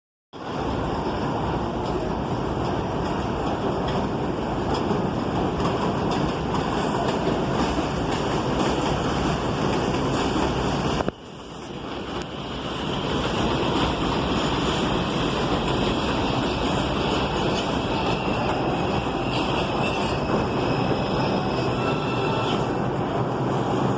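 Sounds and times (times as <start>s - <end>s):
train wheels rumbling on rail: 0.4s - 23.9s.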